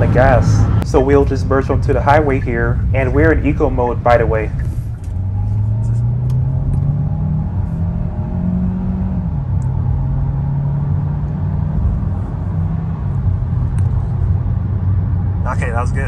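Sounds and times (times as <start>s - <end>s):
car engine at full throttle: 0.0s - 16.0s
road and tyre noise: 0.0s - 16.0s.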